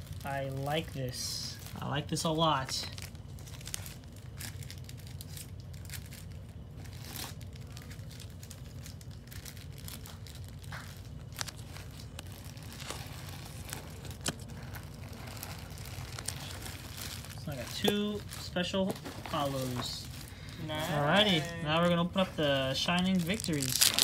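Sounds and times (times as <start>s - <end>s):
cards and wrapper crinkling: 0.0s - 24.0s
low steady hum: 0.0s - 24.0s.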